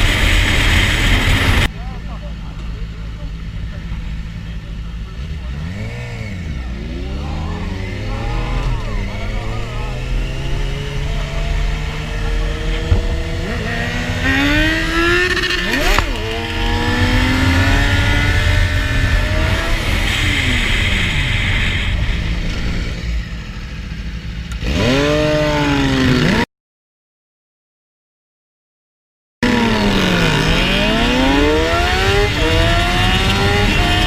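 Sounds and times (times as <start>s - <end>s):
sport-bike engines revving: 0.0s - 26.4s, 29.4s - 34.0s.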